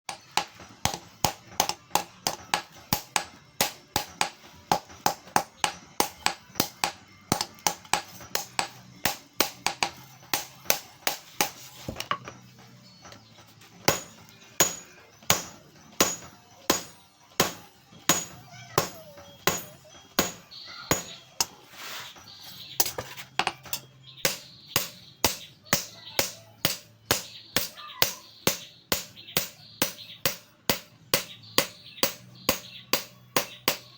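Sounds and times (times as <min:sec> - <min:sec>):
hammer striking metal on anvil: 0:00.1 - 0:11.6, 0:13.8 - 0:21.6, 0:22.8 - 0:33.9.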